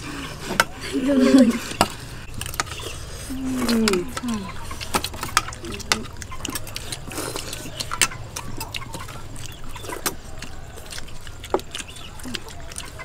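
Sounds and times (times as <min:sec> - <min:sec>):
eating sounds: 0:00.0 - 0:13.0.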